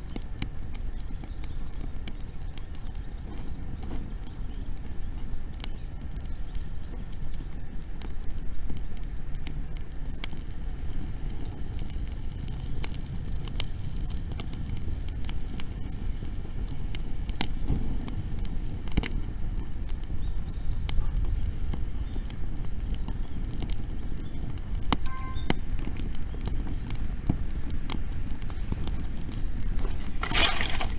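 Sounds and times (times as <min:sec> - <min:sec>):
bonfire crackling and popping: 0:00.0 - 0:30.9.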